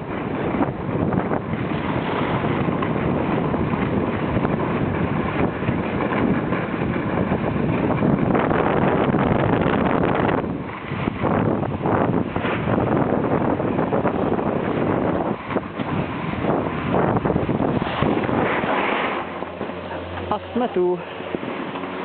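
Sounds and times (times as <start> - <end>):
wind rushing over microphone: 0.0 - 22.0
skis scraping on snow: 1.5 - 9.9, 10.6 - 11.4, 12.2 - 22.0.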